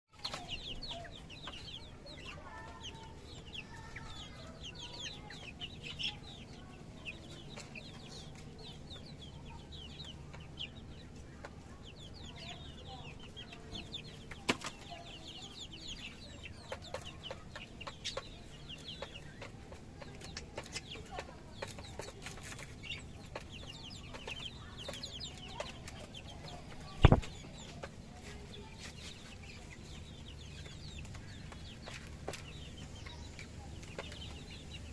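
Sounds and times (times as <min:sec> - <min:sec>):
chickens clucking: 0:00.2 - 0:34.9.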